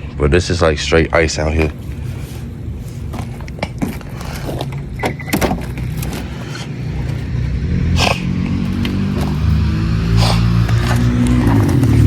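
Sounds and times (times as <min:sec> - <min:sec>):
car engine humming: 0:01.7 - 0:12.0.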